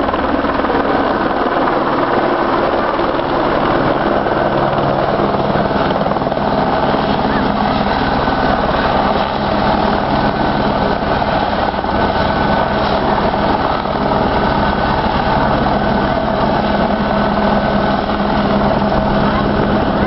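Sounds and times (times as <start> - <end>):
helicopter engine tone: 0.0 - 20.0
helicopter rotor beating: 0.0 - 20.0.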